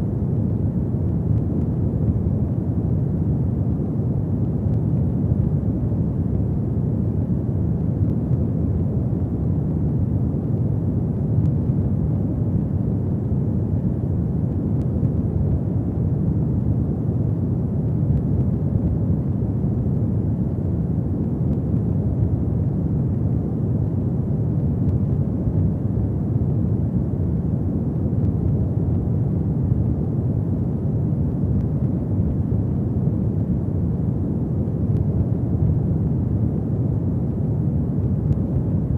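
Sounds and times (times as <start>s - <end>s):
fire burning in a fireplace: 0.1s - 38.9s.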